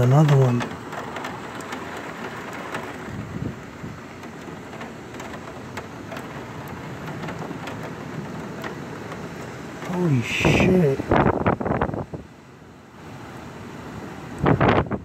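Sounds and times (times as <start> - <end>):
raindrops ticking close by: 0.0 - 12.2
heavy rain falling: 0.0 - 15.0.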